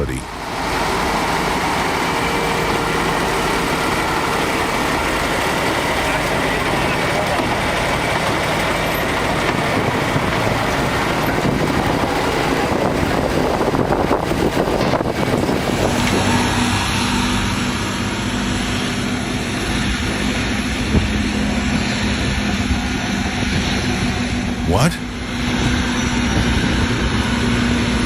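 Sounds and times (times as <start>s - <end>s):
heavy truck engine running: 0.0s - 28.0s
road and wind noise: 0.0s - 28.0s.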